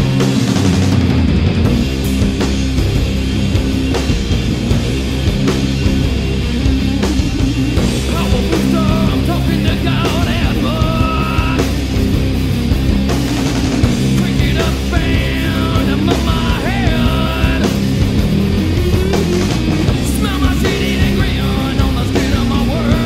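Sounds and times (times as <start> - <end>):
distorted guitar: 0.0 - 23.0
rock music: 0.0 - 23.0
steady drum beat: 0.0 - 23.0.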